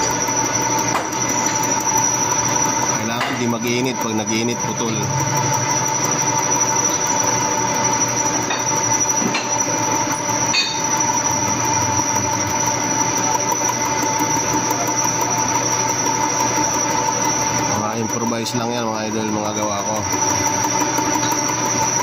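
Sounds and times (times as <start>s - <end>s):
machine tool whining: 0.0s - 22.0s.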